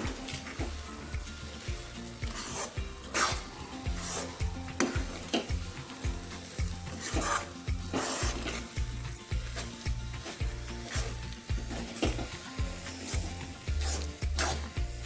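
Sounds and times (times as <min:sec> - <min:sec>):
spoon scraping metal pan: 0:00.0 - 0:14.9.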